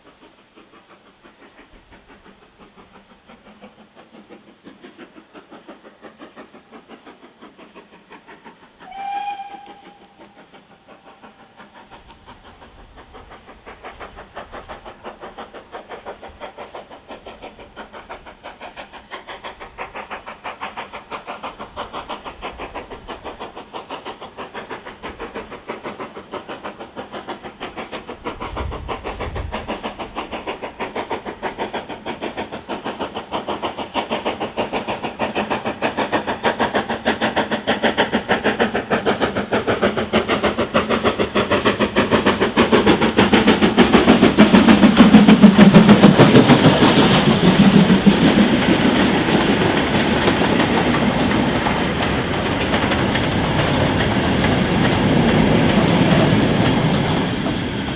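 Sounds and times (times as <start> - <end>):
steam locomotive exhaust beats: 0.0 - 57.9.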